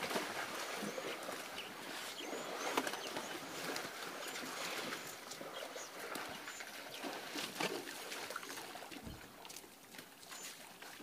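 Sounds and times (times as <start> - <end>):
elephants splashing in water: 0.0 - 11.0
trickling water: 0.0 - 11.0.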